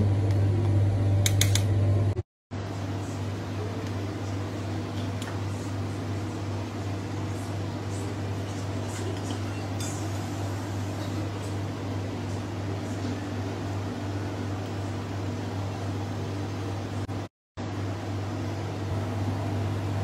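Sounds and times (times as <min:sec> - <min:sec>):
electric fan hum: 0:00.0 - 0:20.0.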